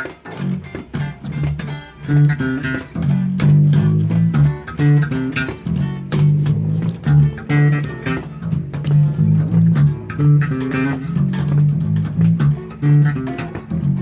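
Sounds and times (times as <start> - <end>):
bass and guitar riff: 0.0 - 14.0.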